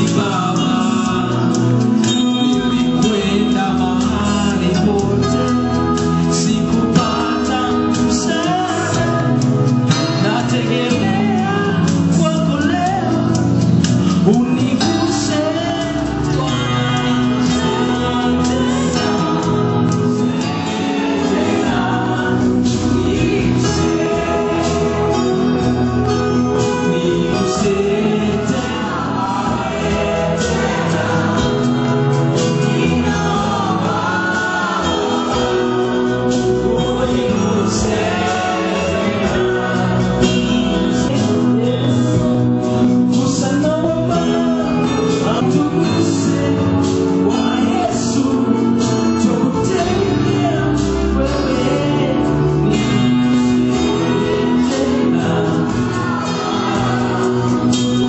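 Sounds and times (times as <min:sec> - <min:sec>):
congregation singing worship song: 0:00.0 - 0:58.0
keyboard accompaniment: 0:00.0 - 0:58.0.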